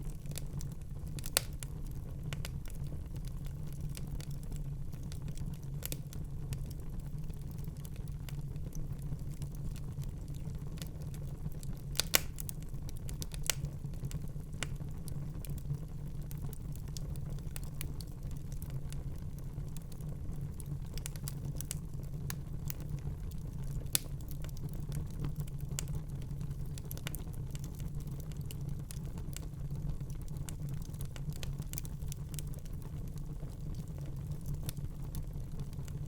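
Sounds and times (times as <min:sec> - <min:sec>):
fireplace fire crackling: 0:00.0 - 0:36.0.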